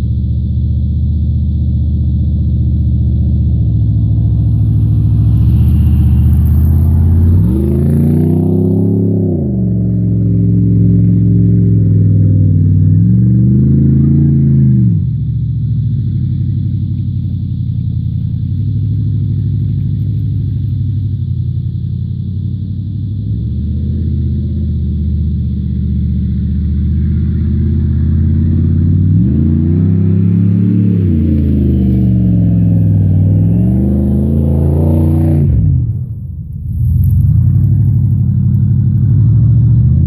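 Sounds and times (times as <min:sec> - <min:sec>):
car engine running and revving: 0:00.0 - 0:40.0.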